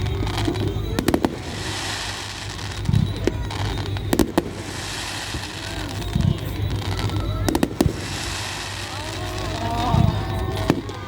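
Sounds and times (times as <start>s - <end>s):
distant firework bursts: 0.0s - 11.0s
fireworks sharp bangs: 0.0s - 11.0s.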